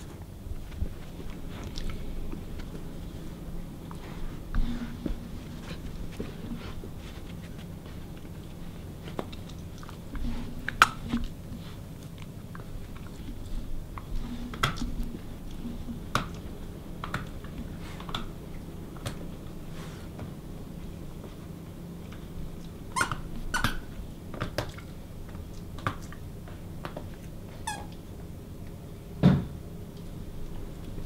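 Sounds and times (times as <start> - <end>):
dogs chewing and tearing toy: 0.0 - 20.2, 22.0 - 28.2.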